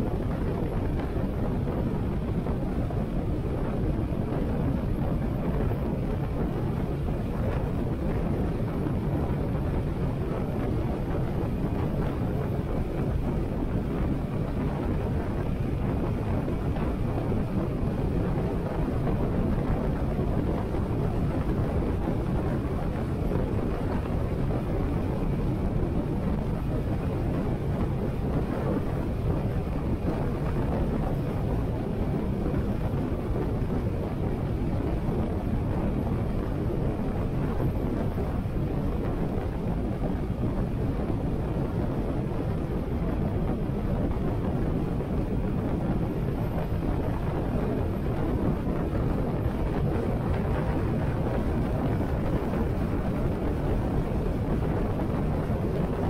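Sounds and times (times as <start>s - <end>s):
wind rush over microphone: 0.0s - 56.0s.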